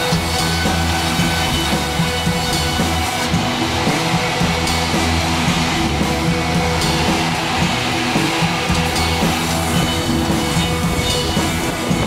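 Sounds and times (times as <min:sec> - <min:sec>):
background guitar music: 0:00.0 - 0:12.0.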